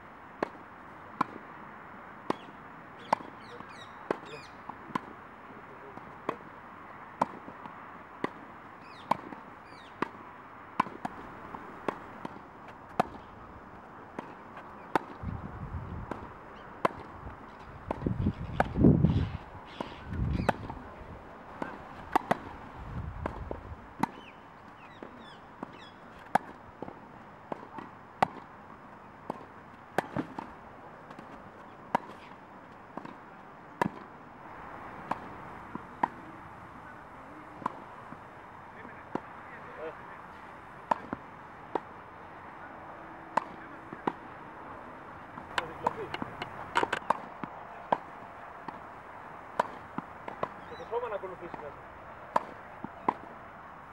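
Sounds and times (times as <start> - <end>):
tennis balls struck by rackets: 0.3 - 19.0, 19.7 - 53.8.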